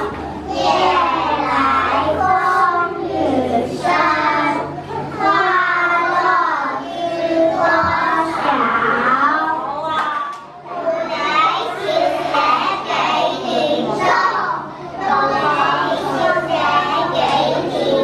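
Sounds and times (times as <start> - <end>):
children chanting a rhyme: 0.0 - 18.0.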